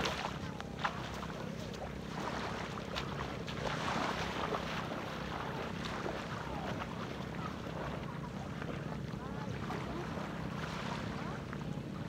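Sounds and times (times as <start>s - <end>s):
waves washing on shore: 0.0s - 12.0s.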